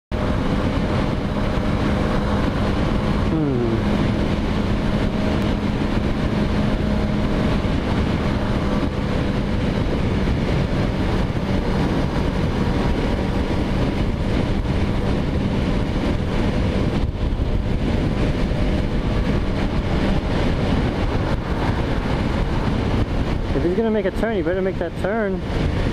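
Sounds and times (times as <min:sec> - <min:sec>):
motorcycle engine cruising: 0:00.1 - 0:25.9
wind rushing over microphone: 0:00.1 - 0:25.9.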